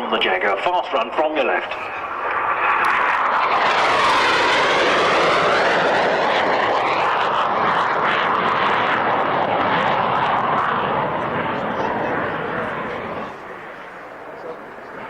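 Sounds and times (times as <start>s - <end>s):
jet engines flying past: 0.0s - 15.0s.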